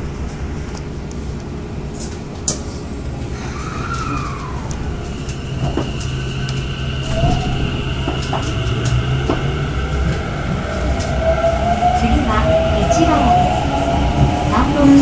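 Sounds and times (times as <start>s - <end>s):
train inverter whine: 0.0s - 15.0s
train running rumble: 0.0s - 15.0s.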